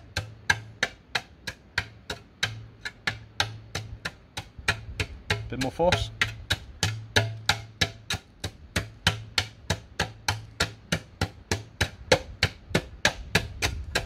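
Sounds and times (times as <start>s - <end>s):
sharp knocks on ground: 0.0s - 14.0s.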